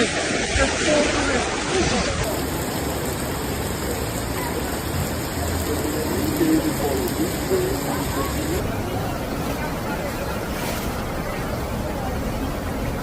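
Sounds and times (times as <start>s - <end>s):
faint voices: 0.0s - 13.0s
heavy rain: 0.0s - 13.0s.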